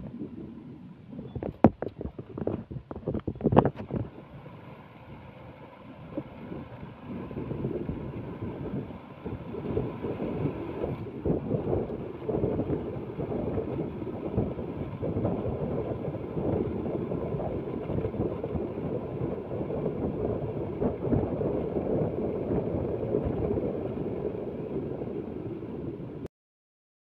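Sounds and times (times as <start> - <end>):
motorbike rumble: 0.0 - 26.3
wind buffeting microphone: 0.0 - 26.3.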